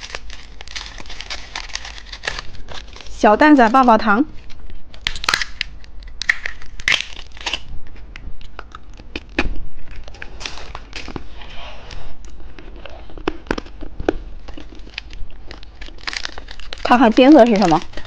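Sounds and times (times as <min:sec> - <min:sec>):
plastic wrappers crinkling: 0:00.0 - 0:18.0.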